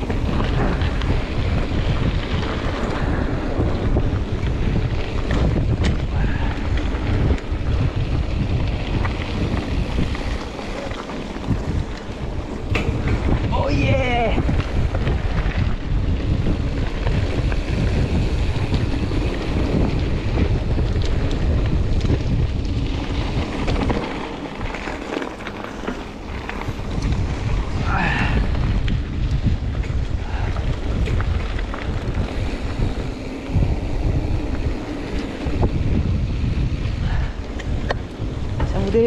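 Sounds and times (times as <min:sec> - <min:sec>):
bike rolling on dirt track: 0:00.0 - 0:39.0
wind buffeting microphone: 0:00.0 - 0:39.0.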